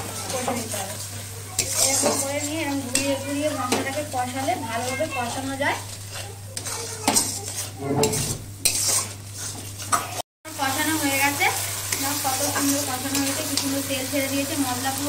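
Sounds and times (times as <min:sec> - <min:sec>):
spatula scraping metal pan: 0:00.0 - 0:10.2, 0:11.9 - 0:13.8
sizzling in oil: 0:00.0 - 0:15.0.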